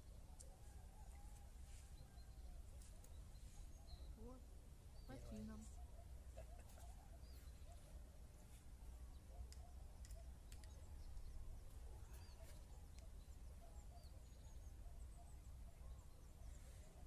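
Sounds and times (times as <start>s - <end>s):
faint high bird chirps: 0.0s - 17.0s.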